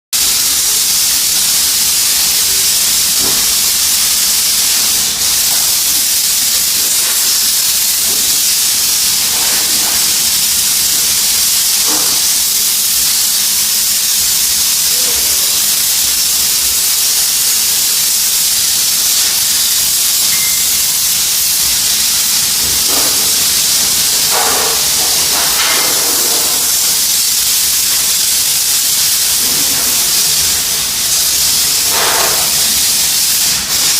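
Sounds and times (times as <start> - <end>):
steam cleaner hissing: 0.2 - 33.9.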